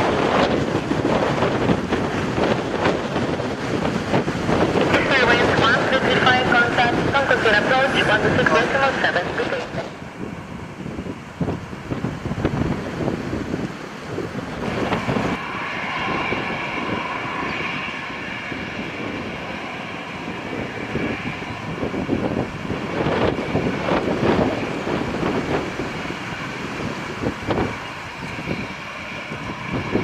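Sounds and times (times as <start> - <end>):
jet engines whining: 0.0 - 30.0.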